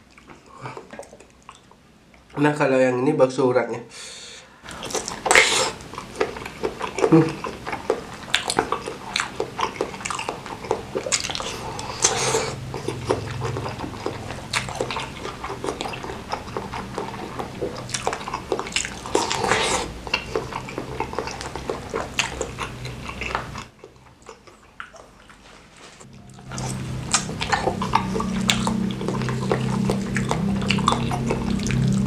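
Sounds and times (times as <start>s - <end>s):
low steady hum: 0.0s - 32.0s
wet chewing and slurping: 4.7s - 32.0s.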